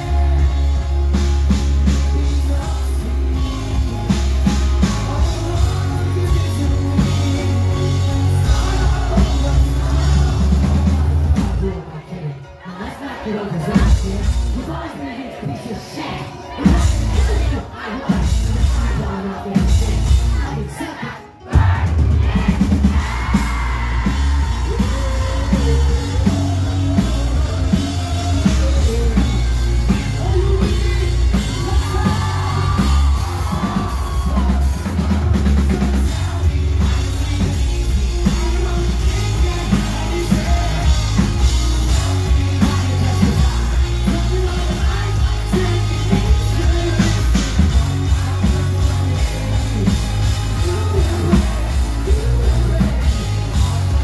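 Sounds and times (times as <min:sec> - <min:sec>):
heavy bass: 0:00.0 - 0:12.0, 0:13.6 - 0:14.9, 0:16.5 - 0:20.8, 0:21.5 - 0:54.0
pounding drum kit: 0:00.0 - 0:12.0, 0:13.6 - 0:54.0
crowd yelling: 0:00.0 - 0:54.0
lead singer vocals: 0:00.0 - 0:54.0
rock band playing: 0:00.0 - 0:54.0.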